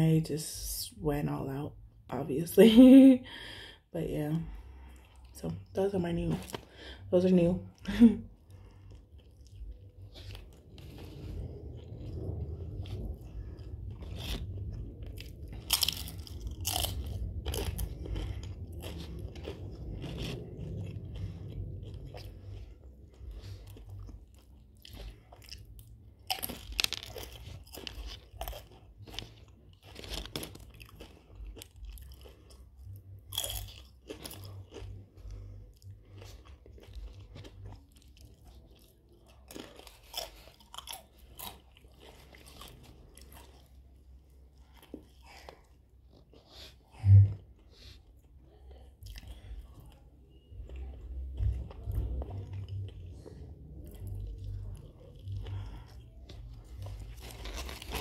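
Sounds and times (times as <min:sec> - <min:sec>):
person chewing crunchy food: 0:07.7 - 0:58.0.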